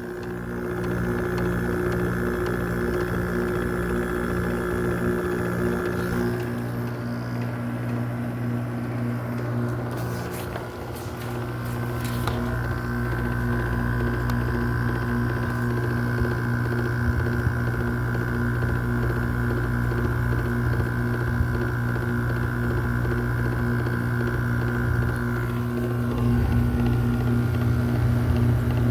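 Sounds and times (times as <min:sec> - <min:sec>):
air conditioner hum: 0:00.0 - 0:28.9.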